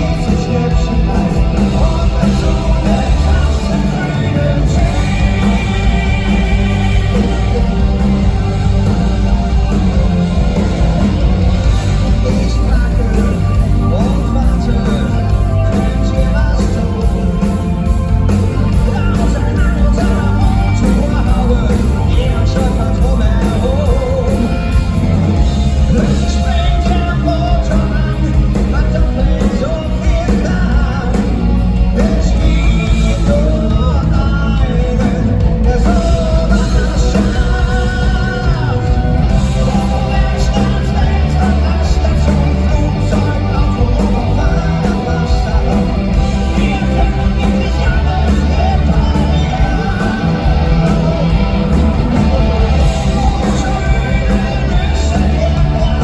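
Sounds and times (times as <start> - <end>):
bass guitar: 0.0 - 56.0
distorted electric guitars: 0.0 - 56.0
drums: 0.0 - 56.0
lead vocal singing: 0.0 - 56.0
rock band playing: 0.0 - 56.0.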